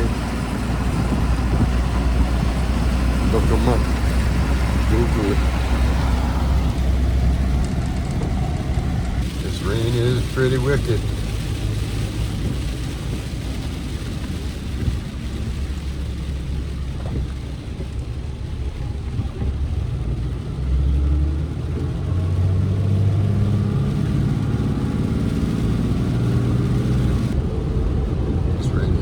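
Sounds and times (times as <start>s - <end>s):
truck engine and road rumble: 0.0s - 29.0s.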